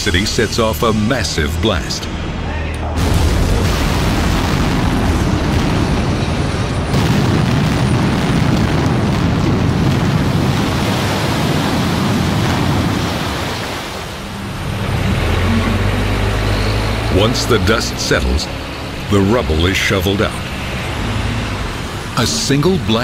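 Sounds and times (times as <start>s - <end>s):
rushing rumble of blast: 0.0s - 23.0s.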